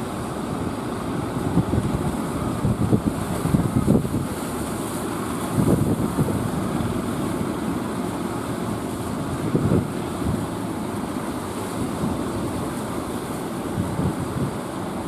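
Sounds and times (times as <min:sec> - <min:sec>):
rough sea surf: 0:00.0 - 0:15.0
wind gusting on microphone: 0:00.0 - 0:15.0.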